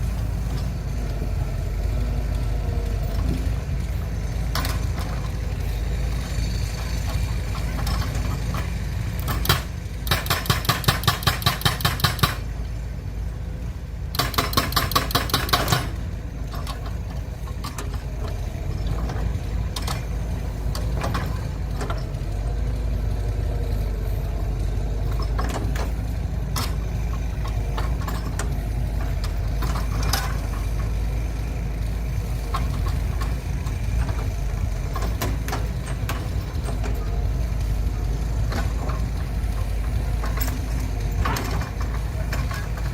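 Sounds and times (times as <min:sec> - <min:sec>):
low engine rumble: 0:00.0 - 0:42.9.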